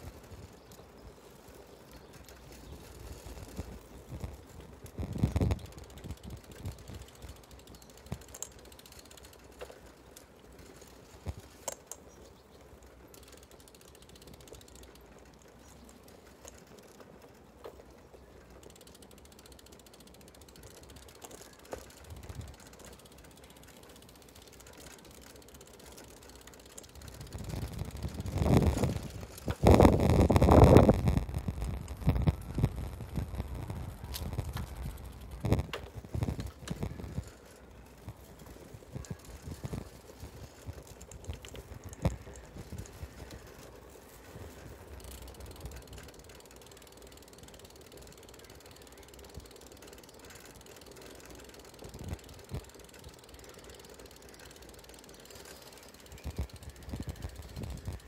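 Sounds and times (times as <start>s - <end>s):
bicycle freewheel ticking: 0.0s - 58.0s.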